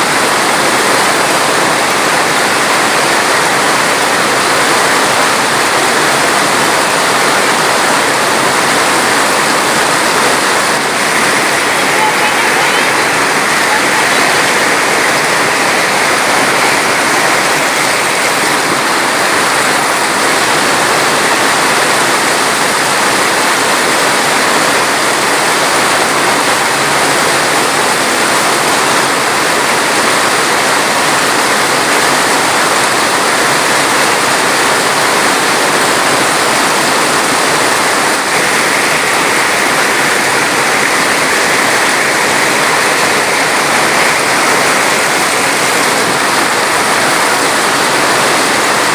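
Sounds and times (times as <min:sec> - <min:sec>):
rushing water: 0:00.0 - 0:48.9.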